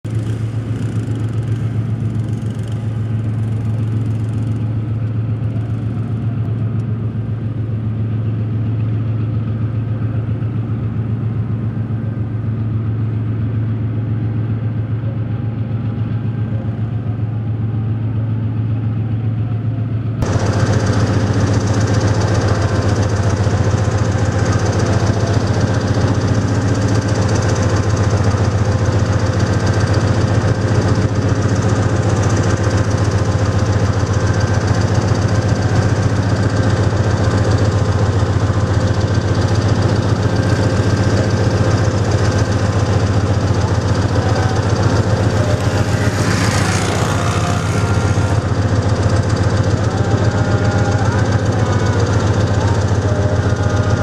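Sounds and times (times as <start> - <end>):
diesel locomotive engine idling: 0.0 - 54.0.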